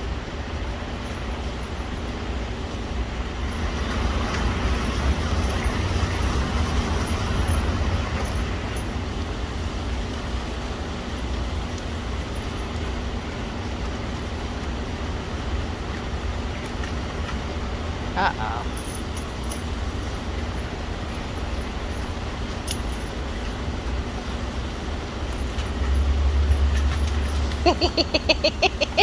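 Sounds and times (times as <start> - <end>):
deep continuous rumble: 0.0 - 29.0
steady rain hiss: 0.0 - 29.0.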